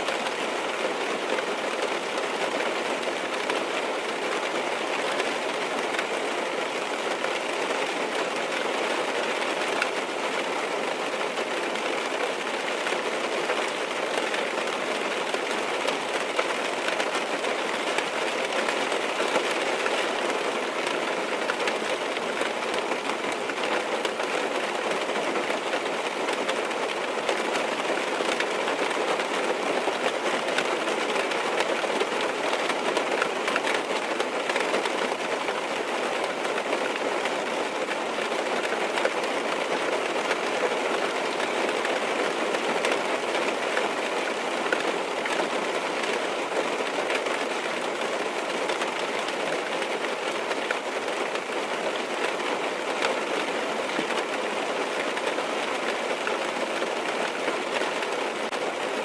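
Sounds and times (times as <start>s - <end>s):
rain on car roof: 0.0s - 59.0s.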